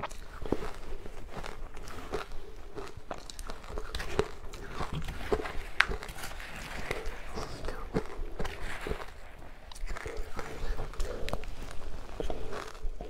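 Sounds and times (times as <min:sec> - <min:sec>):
chewing crunchy ice: 0:00.0 - 0:13.0.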